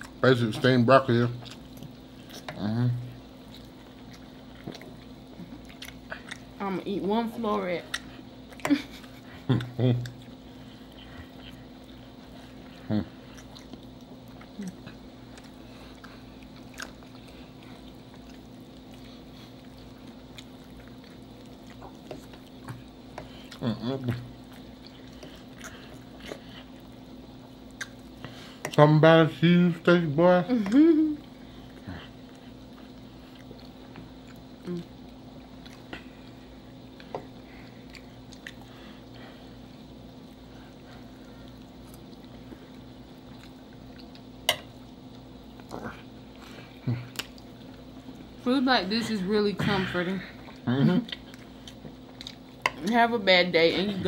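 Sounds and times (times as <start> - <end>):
quiet chewing: 0.0 - 28.9, 30.5 - 48.4, 49.0 - 53.0
steady low hum: 0.0 - 54.0.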